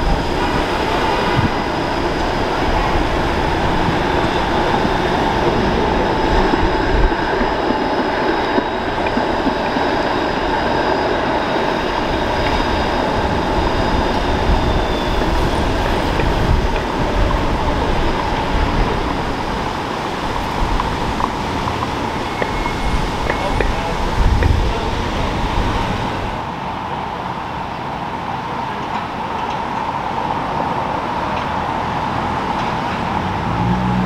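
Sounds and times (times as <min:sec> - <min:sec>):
passing road traffic: 0:00.0 - 0:26.8, 0:27.9 - 0:34.0
streetcar running on track: 0:00.0 - 0:34.0.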